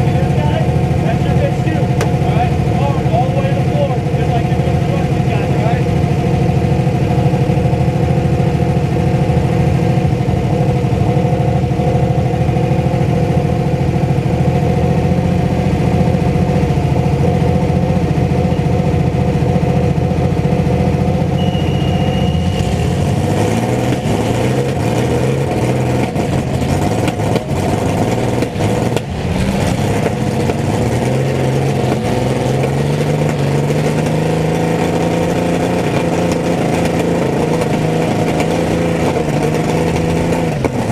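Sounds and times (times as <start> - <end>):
mini truck engines revving: 0.0 - 40.9.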